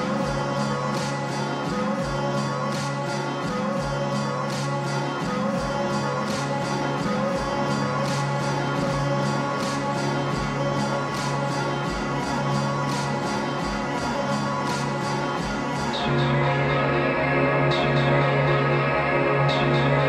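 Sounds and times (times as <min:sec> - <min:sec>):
low drone: 0:00.0 - 0:20.0
slow steady beat: 0:00.0 - 0:20.0.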